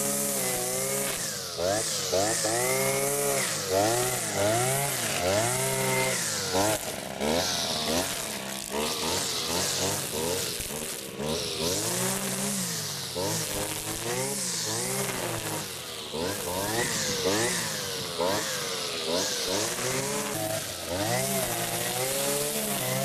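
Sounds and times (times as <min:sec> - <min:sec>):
two-stroke power tools revving: 0:00.0 - 0:23.0.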